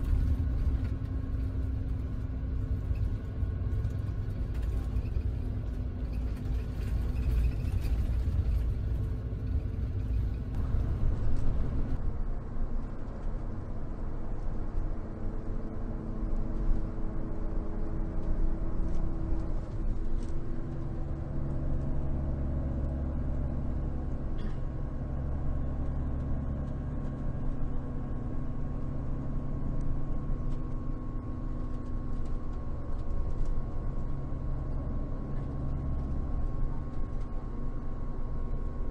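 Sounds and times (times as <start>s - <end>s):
coach engine drone: 0.0s - 38.9s
road noise: 0.0s - 38.9s.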